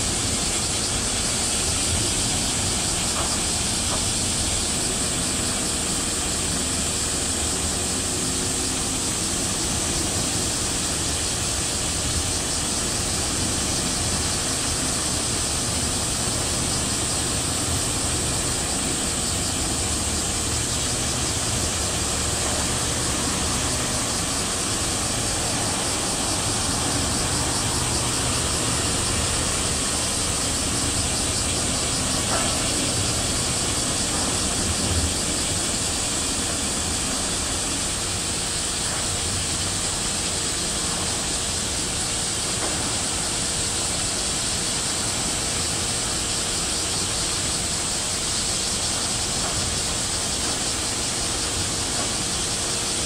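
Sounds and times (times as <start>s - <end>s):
constant high hiss: 0.0s - 53.0s.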